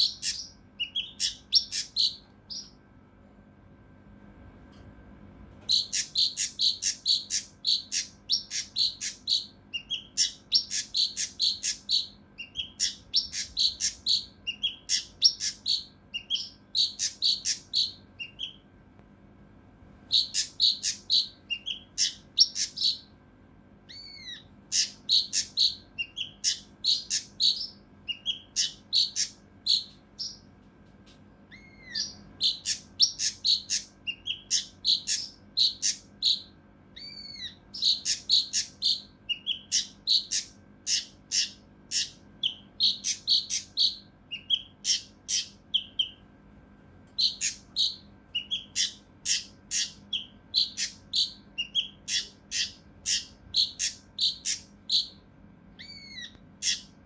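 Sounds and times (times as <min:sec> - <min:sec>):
bird chirping rapidly: 0:00.0 - 0:02.8, 0:05.7 - 0:18.6, 0:20.1 - 0:23.1, 0:23.9 - 0:30.5, 0:31.5 - 0:46.2, 0:47.2 - 0:55.2, 0:55.8 - 0:57.0.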